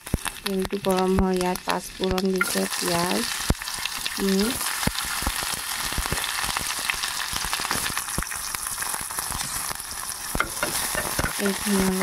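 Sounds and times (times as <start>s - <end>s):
onions sizzling in hot oil: 0.0s - 12.0s
small crackles and pops: 0.0s - 12.0s.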